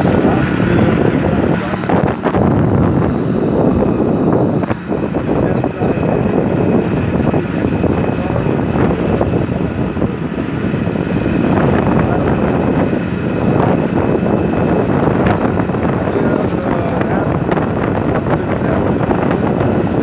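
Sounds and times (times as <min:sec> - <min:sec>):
motorcycle engine: 0:00.0 - 0:20.0
road noise: 0:00.0 - 0:20.0
wind on microphone: 0:00.0 - 0:20.0.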